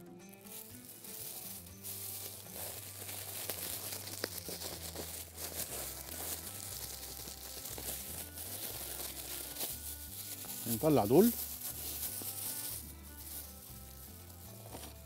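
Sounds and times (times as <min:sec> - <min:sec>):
plastic bag crinkling: 0:00.3 - 0:15.0.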